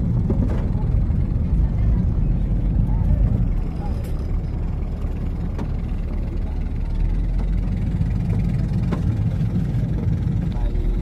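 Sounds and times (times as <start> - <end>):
speedboat engine droning: 0.0 - 11.0.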